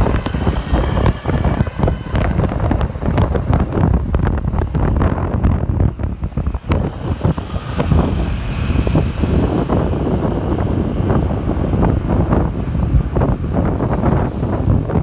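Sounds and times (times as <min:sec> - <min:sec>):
road traffic passing: 0:00.0 - 0:15.0
wind buffeting microphone: 0:00.0 - 0:15.0.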